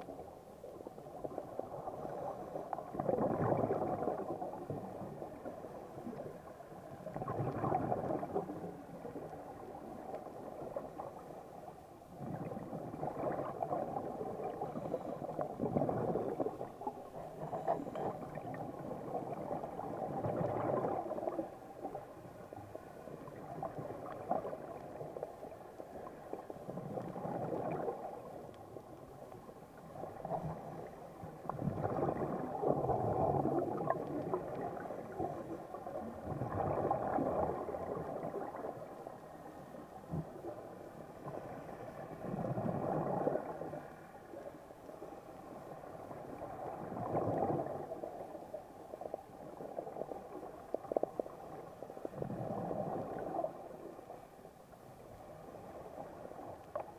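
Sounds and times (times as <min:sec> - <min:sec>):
regulator bubbles gurgling underwater: 0:00.0 - 0:56.9.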